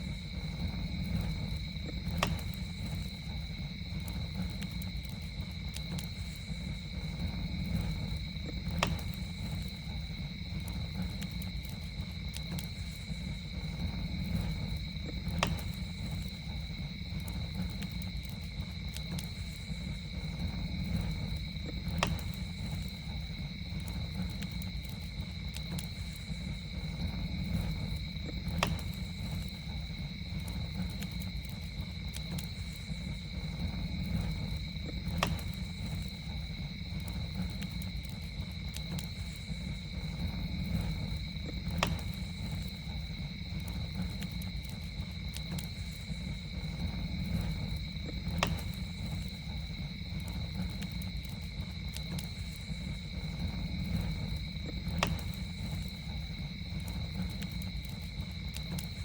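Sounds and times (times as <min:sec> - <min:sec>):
campfire burning with crackles: 0:00.0 - 0:59.0.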